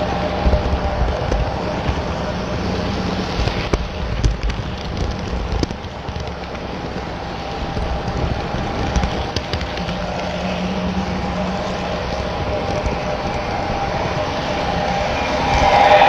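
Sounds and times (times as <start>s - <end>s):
model train rolling on track: 0.0s - 16.0s
sharp clicks of train: 0.0s - 16.0s.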